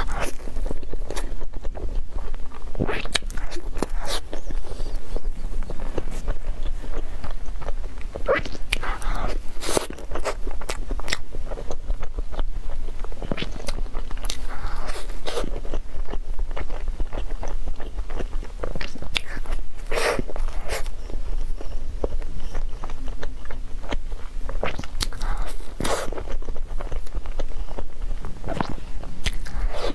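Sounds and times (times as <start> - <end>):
biting and chewing cake: 0.0 - 29.9.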